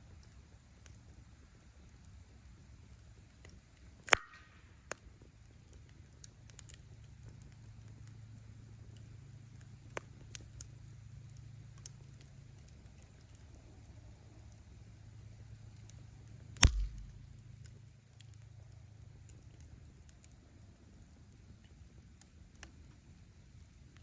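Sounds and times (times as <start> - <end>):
burning wood cracking and popping: 0.0 - 24.0
low rumble of flames: 0.0 - 24.0.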